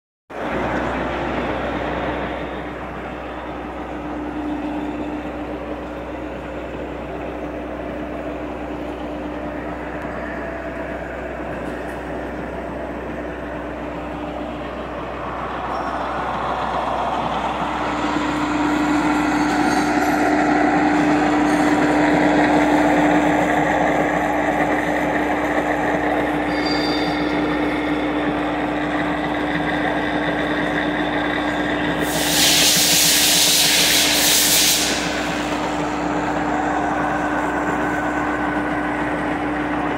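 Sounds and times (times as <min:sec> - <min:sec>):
machine hum: 0:00.4 - 0:39.9.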